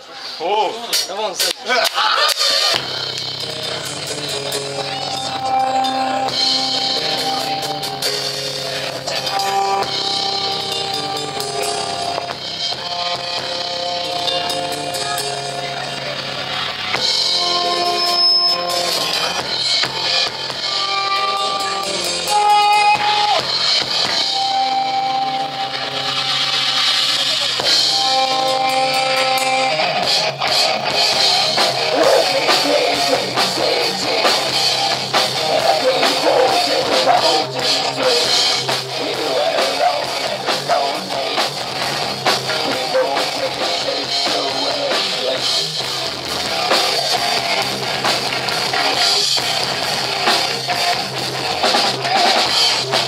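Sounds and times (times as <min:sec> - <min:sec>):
drums and cymbals: 0:00.0 - 0:53.0
rock band playing live: 0:00.0 - 0:53.0
electric guitar: 0:02.7 - 0:53.0
held melodic notes: 0:02.8 - 0:46.1.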